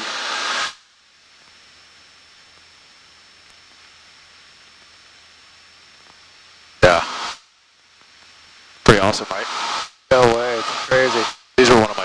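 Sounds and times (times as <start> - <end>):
headset audio hiss: 0.0 - 12.0.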